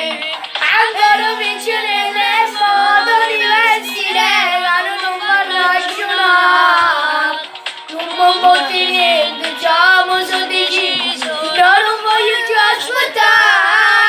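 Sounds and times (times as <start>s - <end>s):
backing music: 0.0s - 14.0s
children singing: 0.0s - 14.0s.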